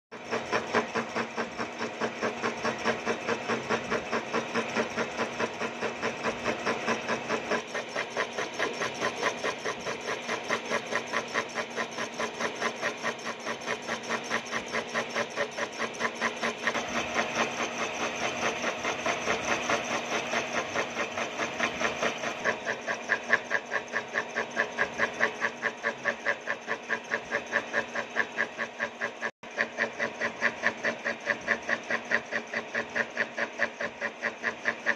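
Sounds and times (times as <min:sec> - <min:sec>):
milling cutter cutting metal: 0:00.1 - 0:34.9.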